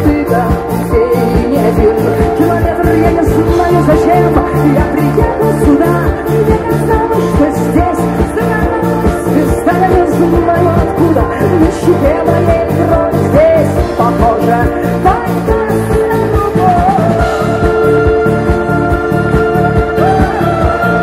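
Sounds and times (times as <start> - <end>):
bass line: 0.0 - 21.0.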